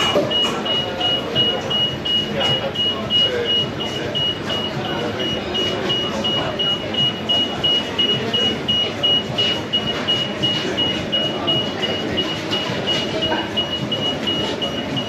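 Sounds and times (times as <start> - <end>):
high-pitched electronic beeping: 0.0 - 15.0
people chattering: 0.0 - 15.0.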